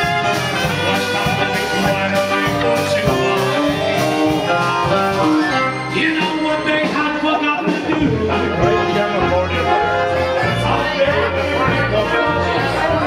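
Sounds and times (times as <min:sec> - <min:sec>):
drums: 0:00.0 - 0:13.0.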